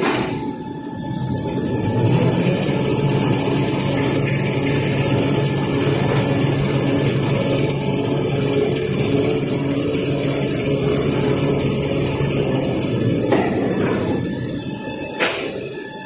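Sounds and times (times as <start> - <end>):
high machine whine: 0.0 - 16.0
machine mechanical hum: 0.0 - 16.0.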